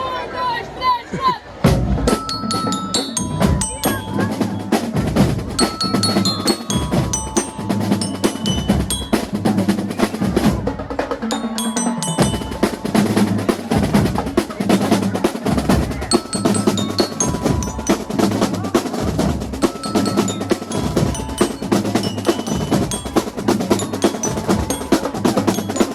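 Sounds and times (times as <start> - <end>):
snare and bass drums beat: 1.6 - 25.9
bell lyre melody: 2.1 - 10.3, 11.3 - 14.9, 16.0 - 25.9.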